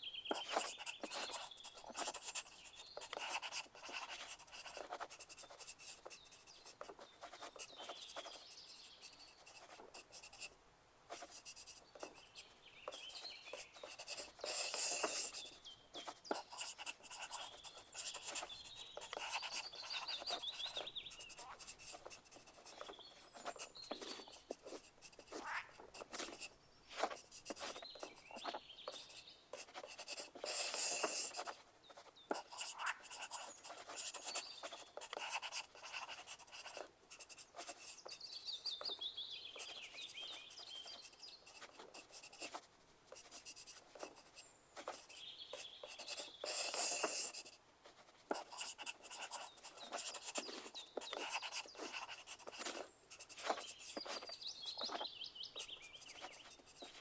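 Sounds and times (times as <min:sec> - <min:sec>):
faint bird chirps: 0:00.0 - 0:42.6, 0:43.2 - 0:47.6, 0:48.4 - 0:57.0
pencil writing on paper: 0:00.3 - 0:39.0, 0:39.6 - 0:57.0.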